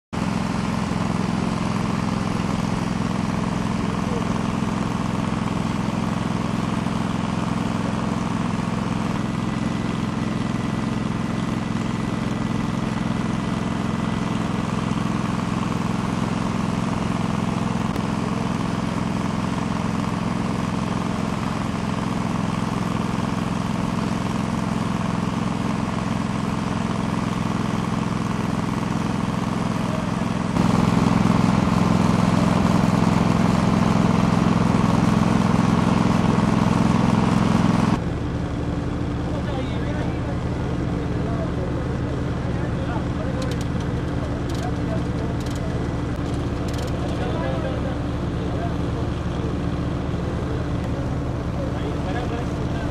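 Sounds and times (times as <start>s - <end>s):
engine running steadily: 0.1s - 52.9s.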